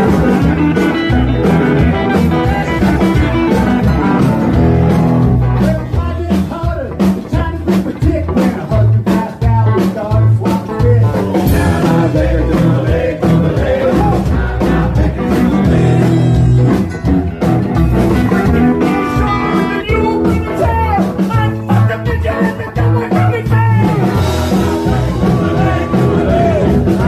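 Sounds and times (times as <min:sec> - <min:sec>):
person singing: 0:00.0 - 0:04.4, 0:05.6 - 0:16.6, 0:18.3 - 0:27.0
live rock band playing: 0:00.0 - 0:27.0.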